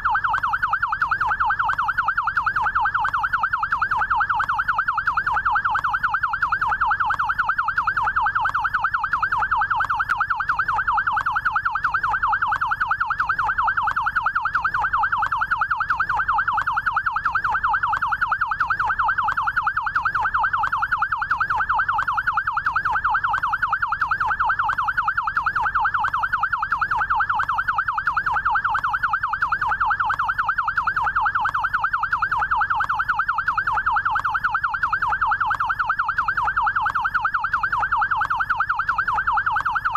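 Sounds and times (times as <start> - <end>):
electronic yelp siren: 0.0 - 39.9.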